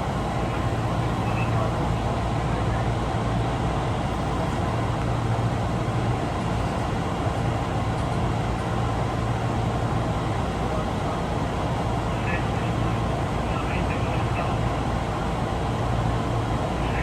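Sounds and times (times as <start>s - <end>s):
subway car rumbling at speed: 0.0s - 17.0s.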